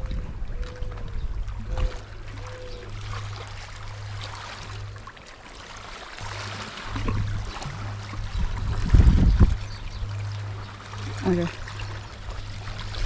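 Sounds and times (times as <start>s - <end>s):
sea water washing among rocks: 1.6s - 13.0s.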